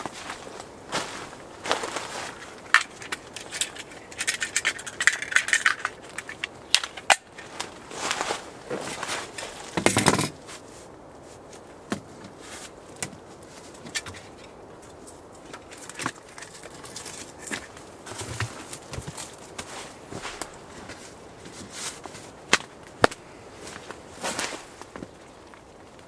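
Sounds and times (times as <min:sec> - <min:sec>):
camp gear clinking and rattling: 0:00.0 - 0:26.0
items clattering: 0:01.8 - 0:10.6, 0:11.9 - 0:25.2.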